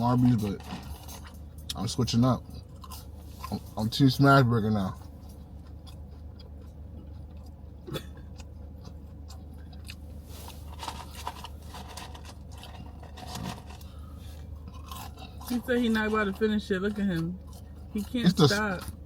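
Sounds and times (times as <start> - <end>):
person chewing crunchy fries: 0.0 - 19.0
steady low hum: 0.0 - 19.0.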